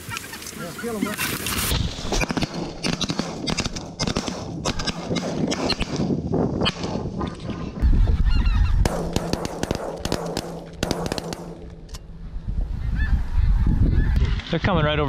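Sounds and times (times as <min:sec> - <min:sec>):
wind buffeting microphone: 0:01.3 - 0:10.0, 0:11.4 - 0:15.0.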